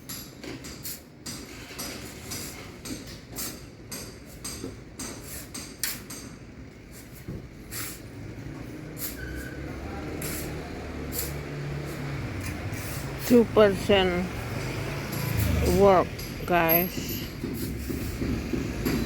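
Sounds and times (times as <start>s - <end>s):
hand tools knocking and scraping: 0.0s - 19.0s.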